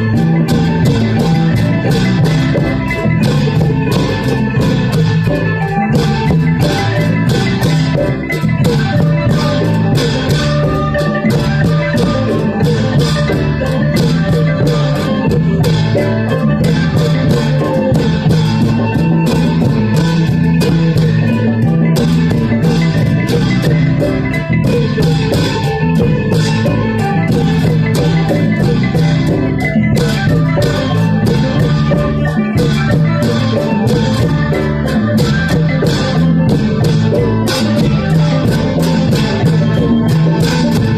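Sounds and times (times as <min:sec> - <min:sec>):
plucked-string melody: 0:00.0 - 0:40.9
steady drum beat: 0:00.0 - 0:40.9.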